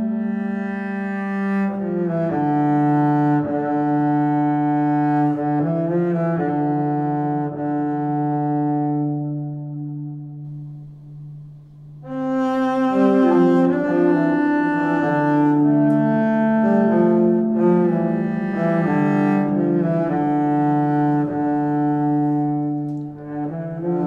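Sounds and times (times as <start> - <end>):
low bowed strings music: 0.0 - 24.0.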